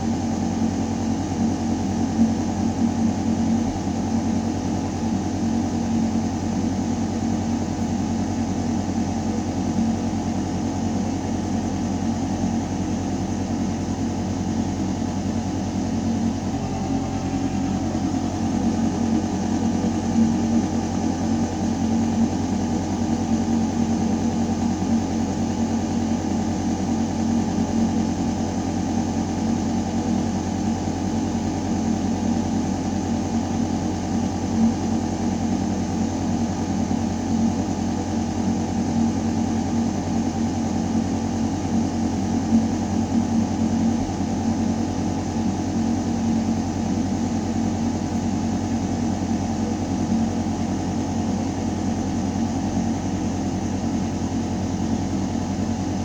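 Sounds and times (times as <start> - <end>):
ventilation mechanical hum: 0.0 - 56.0.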